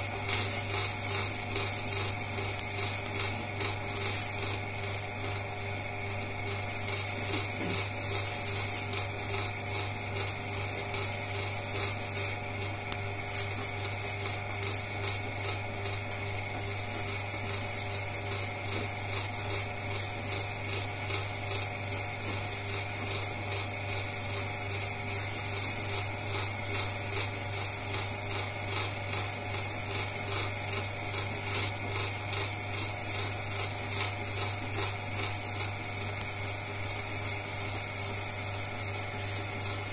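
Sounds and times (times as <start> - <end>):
potter's wheel humming: 0.0 - 39.9
wet clay rubbed by hands: 0.0 - 39.9.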